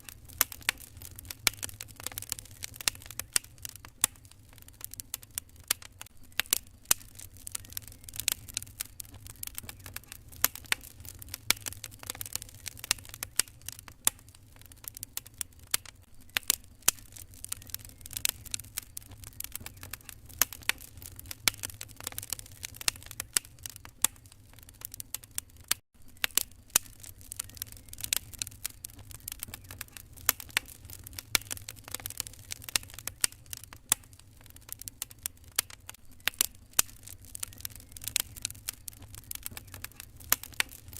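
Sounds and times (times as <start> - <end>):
low steady rumble: 0.0 - 25.2, 26.6 - 34.6
wood fire crackling: 0.0 - 40.9.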